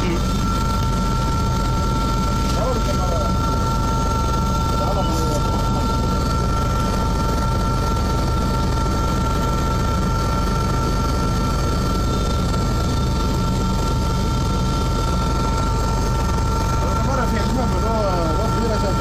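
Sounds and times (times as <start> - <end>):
helicopter cabin rumble and whine: 0.0 - 19.0.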